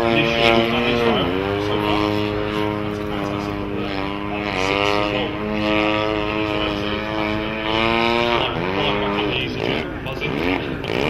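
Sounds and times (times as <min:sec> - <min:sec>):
model plane engine buzzing: 0:00.0 - 0:11.0.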